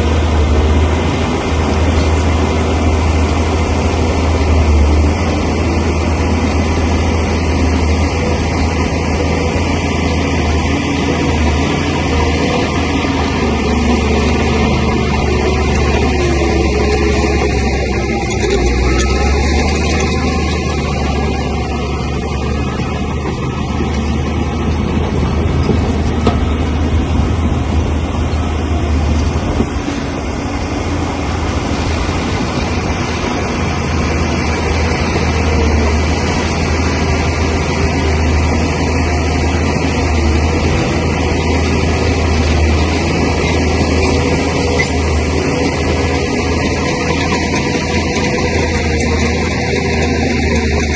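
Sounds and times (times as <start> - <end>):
heavy diesel engine droning: 0.0 - 50.9.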